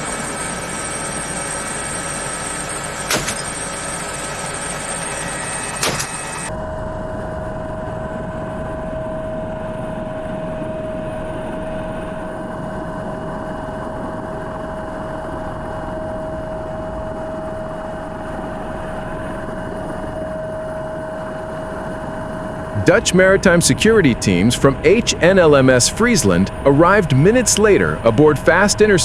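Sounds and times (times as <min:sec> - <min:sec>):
helicopter engine and rotor drone: 0:00.0 - 0:29.0.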